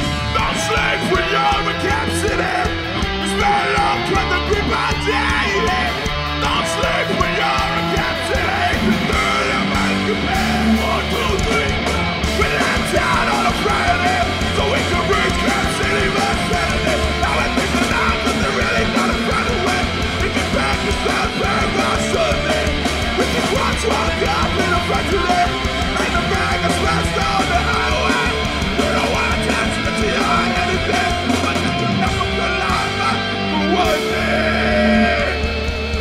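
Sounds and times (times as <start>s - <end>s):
bass guitar: 0.0s - 36.0s
distorted electric guitars: 0.0s - 36.0s
drums: 0.0s - 36.0s.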